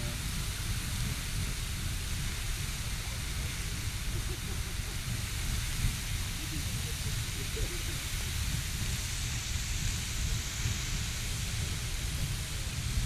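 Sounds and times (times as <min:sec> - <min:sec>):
geyser rushing hiss: 0:00.0 - 0:13.0.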